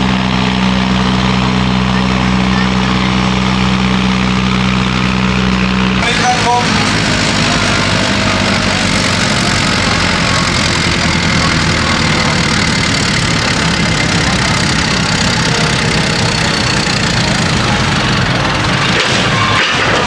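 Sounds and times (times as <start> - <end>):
background hubbub: 0.0 - 20.0
tractor engine idling: 0.0 - 20.0.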